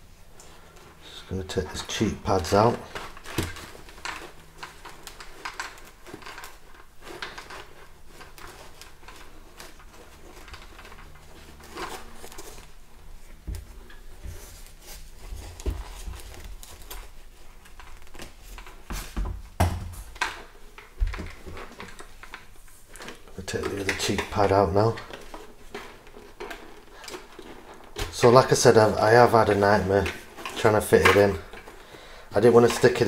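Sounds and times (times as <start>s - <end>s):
fabric and foam rustling: 0.0s - 33.0s.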